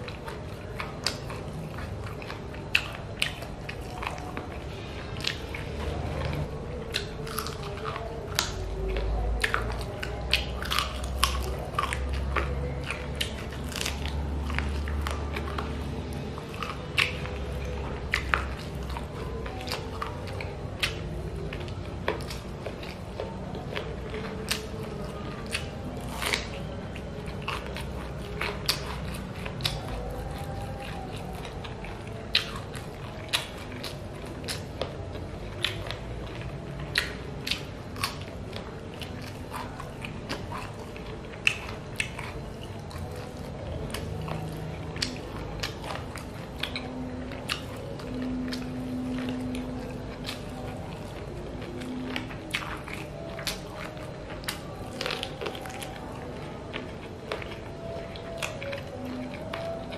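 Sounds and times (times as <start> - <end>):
chewing and mouth smacking: 0.0 - 59.9
sharp clicks and wet snaps: 0.0 - 59.9.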